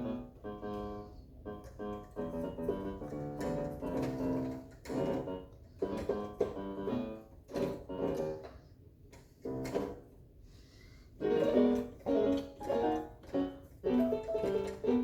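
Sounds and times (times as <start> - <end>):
electronic keyboard playing: 0.0 - 8.5, 11.2 - 15.0.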